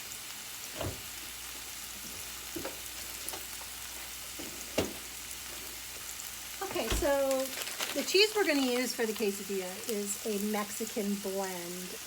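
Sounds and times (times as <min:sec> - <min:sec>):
chicken sizzling in a frying pan: 0:00.0 - 0:12.0.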